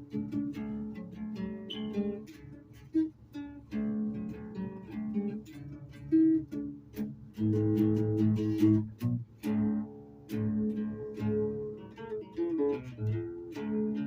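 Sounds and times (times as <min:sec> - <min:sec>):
plucked string instrument music: 0:00.0 - 0:14.0.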